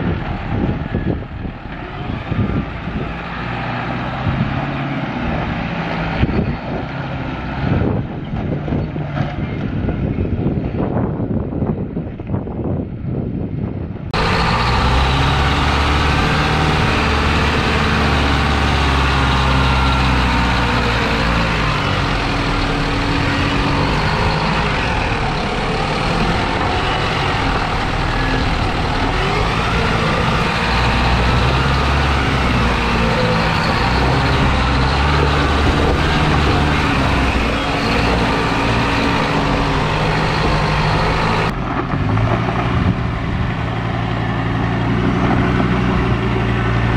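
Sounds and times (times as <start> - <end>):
diesel truck engine working: 0.0 - 46.9.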